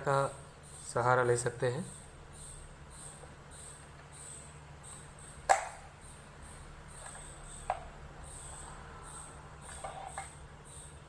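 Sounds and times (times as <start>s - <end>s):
high pulsing chirping: 0.0s - 11.0s.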